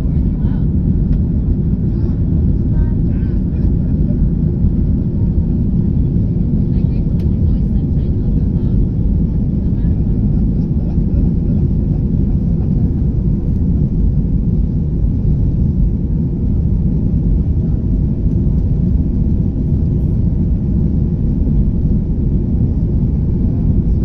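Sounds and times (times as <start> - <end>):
jet engines low rumble: 0.0 - 24.0.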